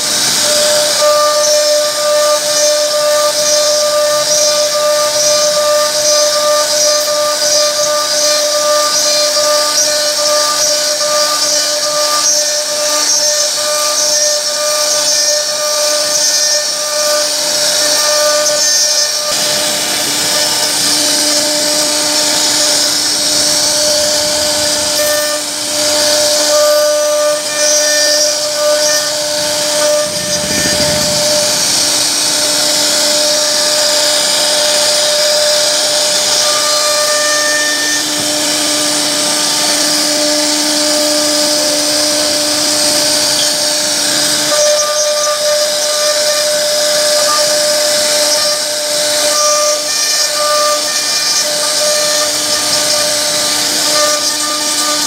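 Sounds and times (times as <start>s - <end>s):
router spindle whining: 0.0s - 55.0s
wood cutting hiss: 0.0s - 55.0s.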